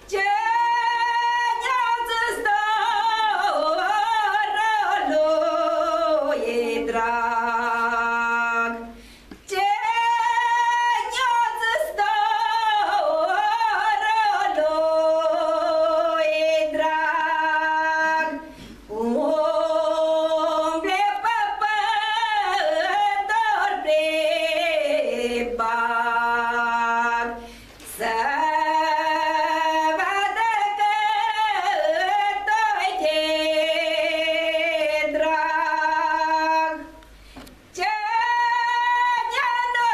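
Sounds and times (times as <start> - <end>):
woman singing unaccompanied: 0.0 - 37.1, 37.7 - 39.9.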